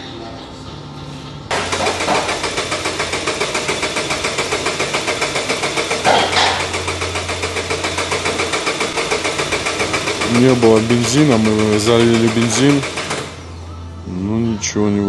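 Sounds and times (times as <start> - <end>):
starter cranking engine: 1.5 - 13.7.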